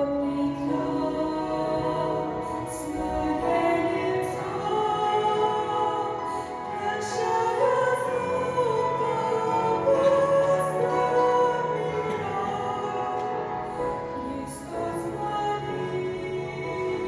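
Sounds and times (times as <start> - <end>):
voices singing long notes: 0.0 - 17.0.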